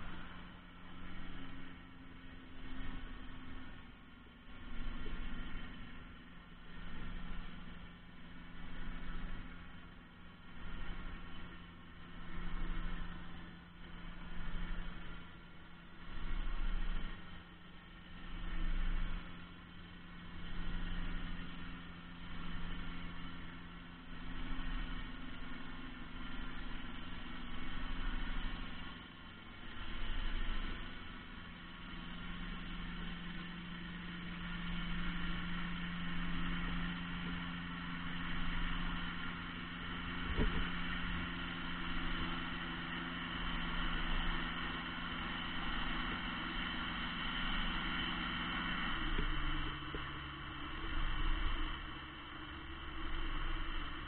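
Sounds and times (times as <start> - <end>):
boat engine underwater drone: 0.0 - 54.0.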